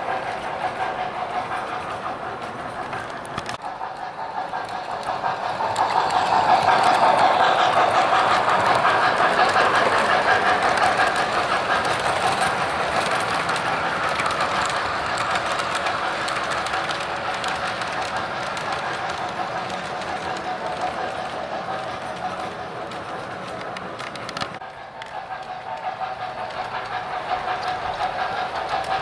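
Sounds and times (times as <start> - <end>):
model train wheels clattering on rails: 0.0 - 29.0.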